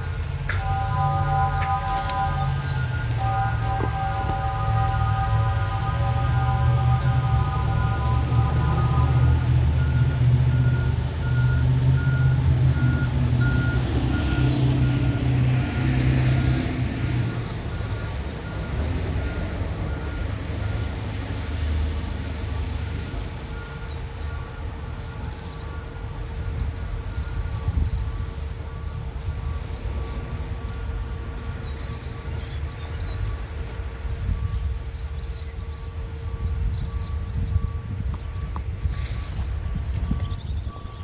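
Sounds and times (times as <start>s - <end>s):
back-up alarm beeping: 0.0s - 21.7s, 22.3s - 31.0s, 34.3s - 41.0s
diesel engine rumble: 0.0s - 41.0s.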